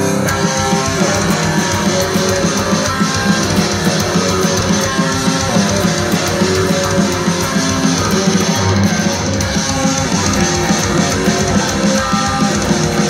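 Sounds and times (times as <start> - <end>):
electric guitar riff: 0.0 - 13.0.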